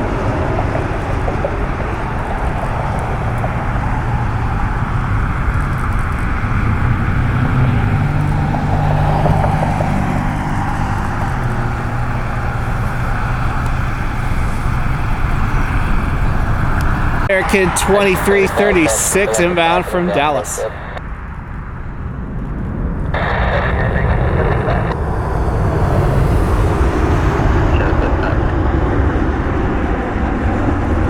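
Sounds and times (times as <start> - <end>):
jet airliner engines: 0.0 - 31.0.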